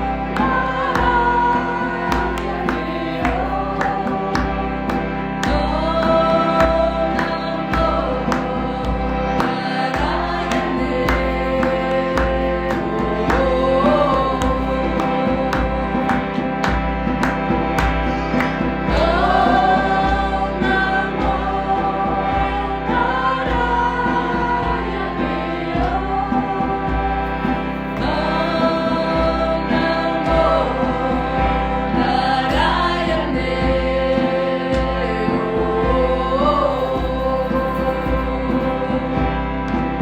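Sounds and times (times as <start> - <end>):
choir-like singing: 0.0 - 17.4, 18.4 - 40.0
sustained chords: 0.0 - 40.0.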